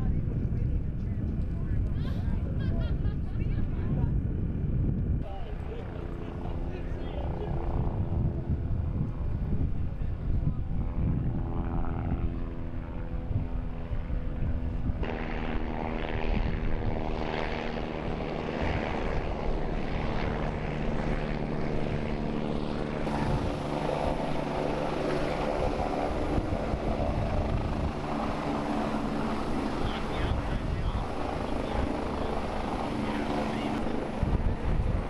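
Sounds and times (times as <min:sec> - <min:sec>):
aircraft engine droning: 0:00.0 - 0:35.0.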